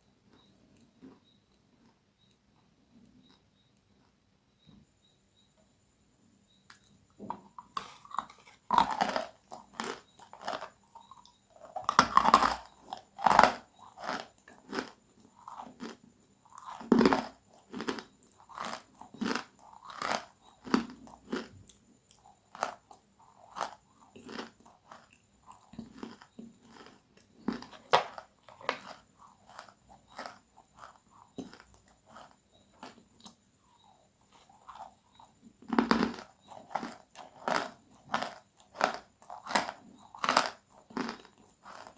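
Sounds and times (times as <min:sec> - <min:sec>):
crunchy food chewing: 0:00.0 - 0:04.3, 0:06.5 - 0:41.9.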